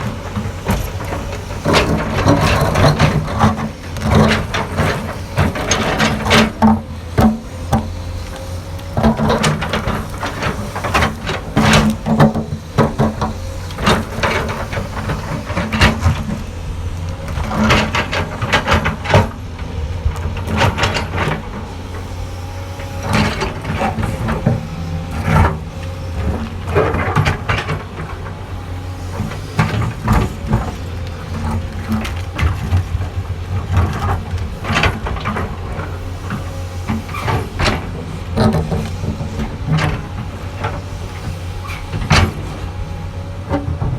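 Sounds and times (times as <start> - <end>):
excavator clanks and scrapes: 0.0 - 43.9
excavator diesel engine running: 0.0 - 43.9.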